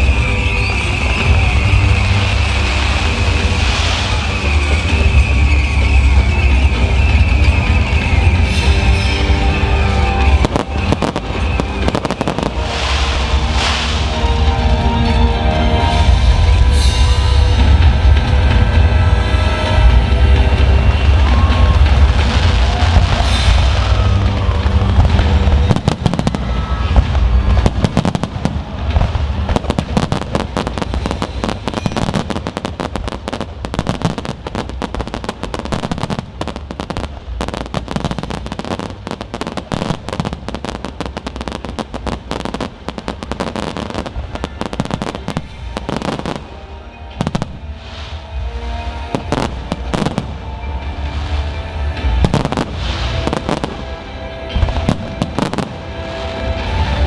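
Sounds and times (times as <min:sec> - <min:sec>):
fireworks crackling and bursting: 0:00.0 - 0:57.0.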